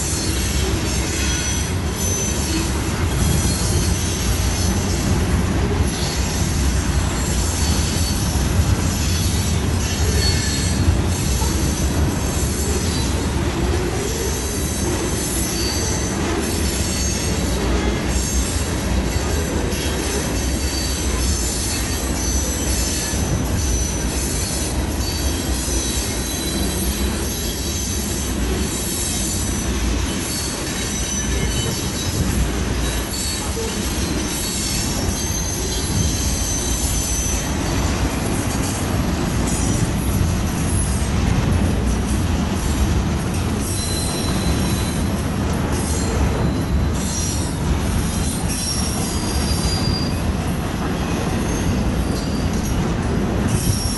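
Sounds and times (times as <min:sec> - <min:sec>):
train wheels squealing: 0:00.0 - 0:41.6, 0:42.5 - 0:53.9.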